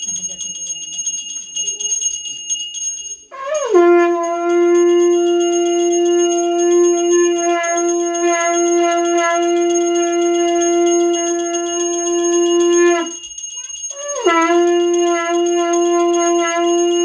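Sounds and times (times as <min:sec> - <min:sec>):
hand bell ringing rapidly: 0:00.0 - 0:17.0
conch shell blown: 0:03.3 - 0:17.0.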